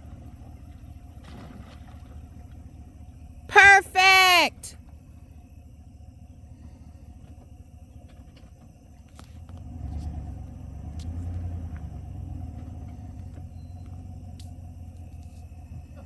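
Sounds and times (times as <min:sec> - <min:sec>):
low engine rumble: 0:00.0 - 0:03.5, 0:04.6 - 0:16.0.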